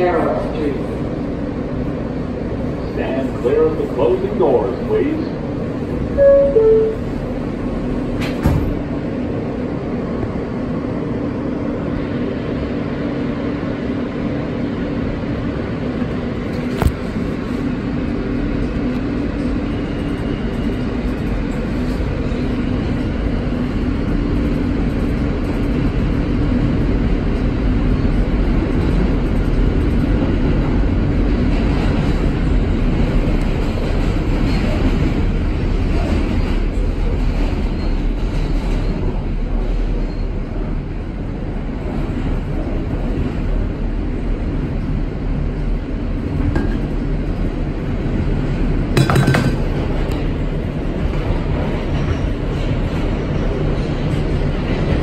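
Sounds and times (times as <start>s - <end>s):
subway car low hum: 0.0s - 55.0s
train wheels on track: 0.0s - 55.0s.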